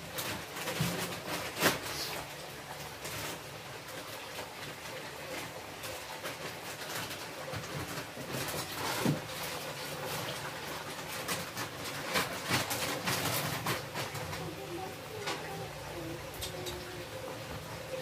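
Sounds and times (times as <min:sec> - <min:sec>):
broth simmering hiss: 0:00.0 - 0:18.0.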